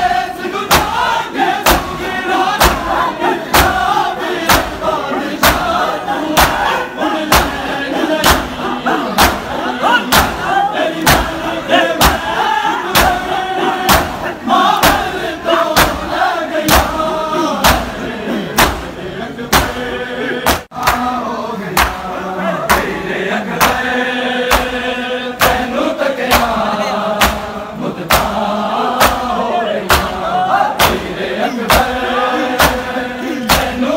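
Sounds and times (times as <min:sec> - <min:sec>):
men slapping chests in unison: 0:00.0 - 0:33.9
voices chanting a lament: 0:00.0 - 0:33.9.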